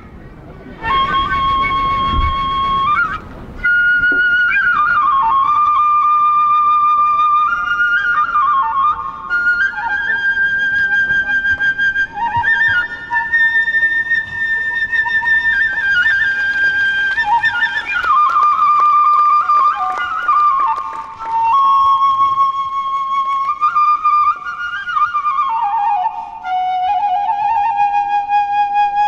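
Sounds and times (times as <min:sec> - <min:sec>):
bamboo flute melody with trills: 0:00.0 - 0:29.0
lower flute line: 0:00.0 - 0:29.0.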